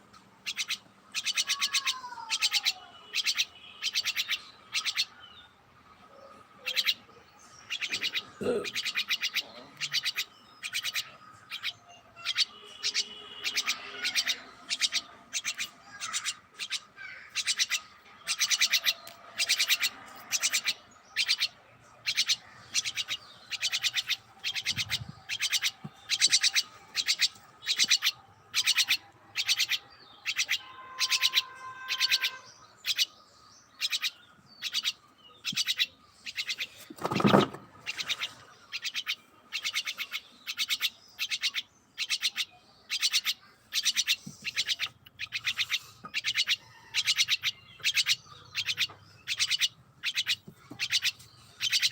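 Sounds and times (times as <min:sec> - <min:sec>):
pet birds chirping: 0:00.0 - 0:51.9.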